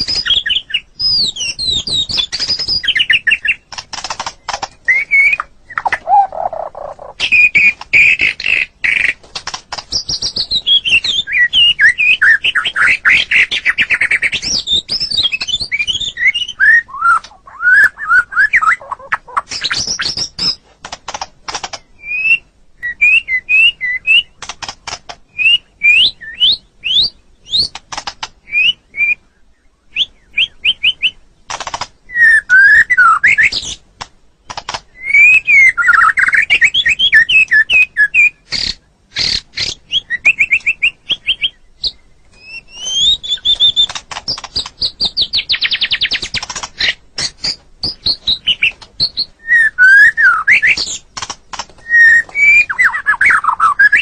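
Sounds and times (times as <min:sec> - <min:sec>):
songbird whistling and trilling: 0:00.0 - 0:03.6, 0:04.4 - 0:09.2, 0:09.9 - 0:20.6, 0:21.8 - 0:24.4, 0:25.3 - 0:27.8, 0:28.4 - 0:31.2, 0:32.1 - 0:33.8, 0:34.6 - 0:51.1, 0:51.8 - 0:54.0.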